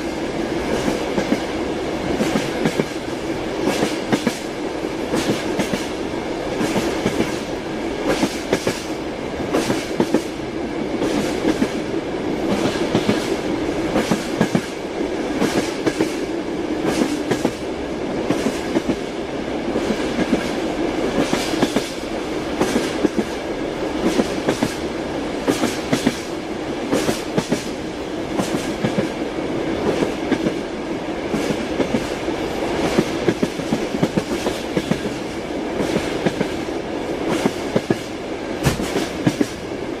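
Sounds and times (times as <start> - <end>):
train wheels clicking over rail joints: 0.0 - 19.1, 19.7 - 29.2, 31.2 - 39.7
train running noise: 0.0 - 40.0.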